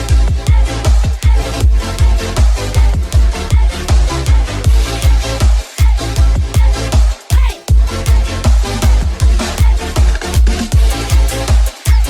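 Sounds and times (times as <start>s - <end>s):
electronic dance music: 0.0s - 12.0s
heavy kick drum thumping: 0.0s - 12.0s.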